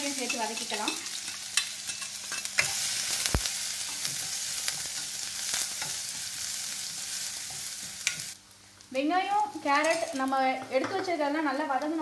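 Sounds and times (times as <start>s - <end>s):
onions sizzling in hot oil: 0.0s - 10.6s.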